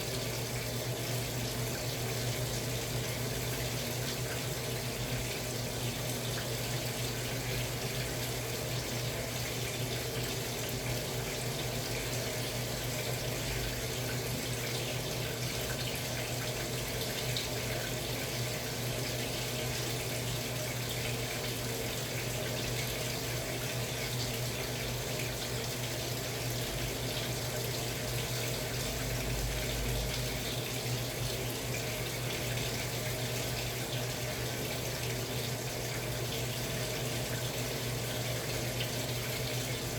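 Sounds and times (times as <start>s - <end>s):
washing machine hum: 0.0s - 39.9s
washing machine water rushing: 0.0s - 39.9s.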